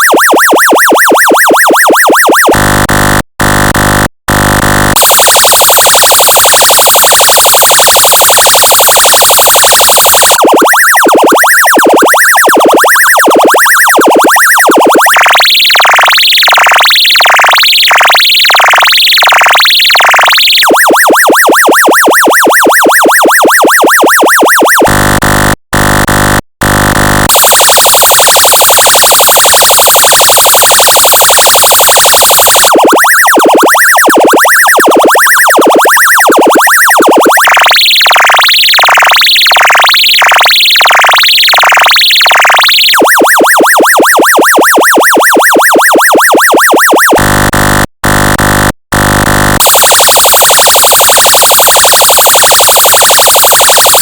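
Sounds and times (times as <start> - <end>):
electronic yelp siren: 0.0 - 54.0
pulsing electronic alarm: 0.0 - 54.0.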